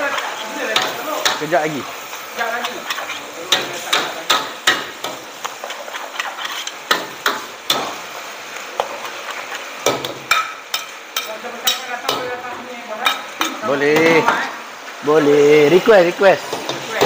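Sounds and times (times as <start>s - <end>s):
metal utensils clanking on a wok: 0.0s - 1.8s, 2.4s - 8.0s, 8.8s - 14.5s, 16.4s - 17.0s
food sizzling: 0.0s - 17.0s.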